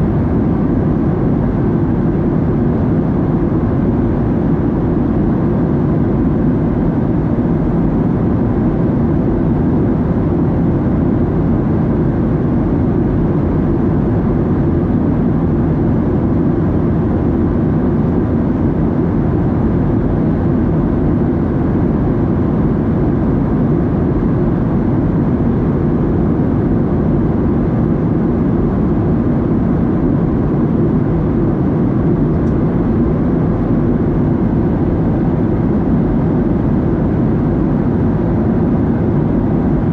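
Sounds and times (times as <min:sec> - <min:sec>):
airflow over fuselage: 0:00.0 - 0:39.9
jet engines rumbling: 0:00.0 - 0:39.9.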